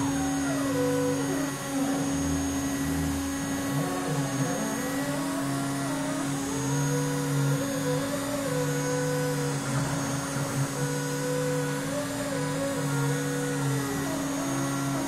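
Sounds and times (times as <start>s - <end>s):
cnc router motor tone: 0.0s - 15.0s
whine of drive motors: 0.0s - 15.0s.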